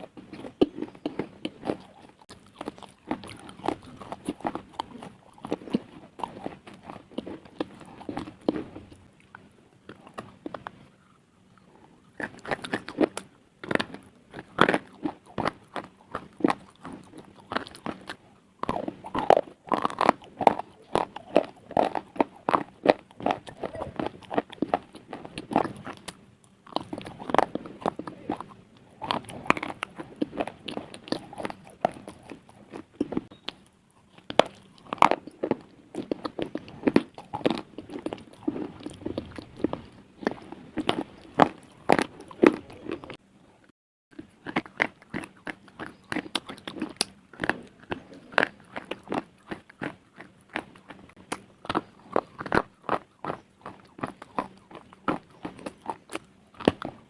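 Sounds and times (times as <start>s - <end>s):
slate crunching when chewed: 0.0s - 43.4s, 44.1s - 57.0s.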